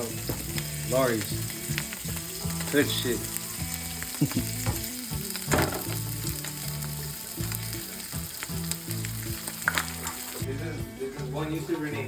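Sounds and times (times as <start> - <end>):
background music bass line: 0.0 - 12.0
sausage sizzling in a pan: 0.0 - 12.0.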